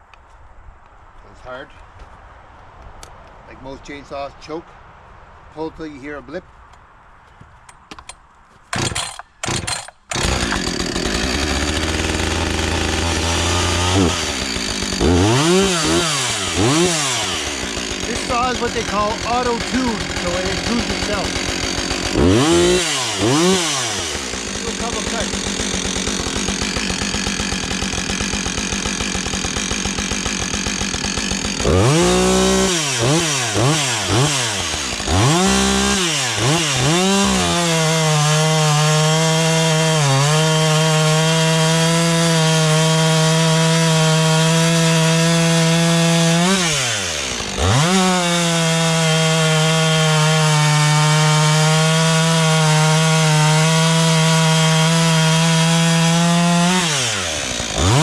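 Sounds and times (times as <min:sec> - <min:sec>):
chainsaw cutting wood: 0:08.7 - 0:58.0
chainsaw idling and revving: 0:08.7 - 0:58.0.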